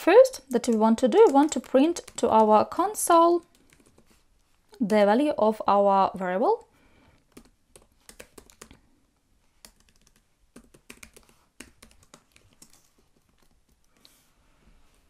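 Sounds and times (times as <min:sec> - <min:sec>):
faint keyboard typing: 0:00.2 - 0:04.8, 0:06.1 - 0:14.3.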